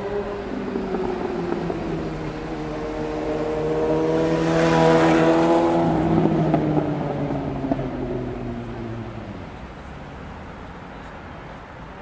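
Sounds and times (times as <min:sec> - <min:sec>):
vehicle engine passing: 0:00.0 - 0:10.1
road noise rush: 0:00.0 - 0:12.0.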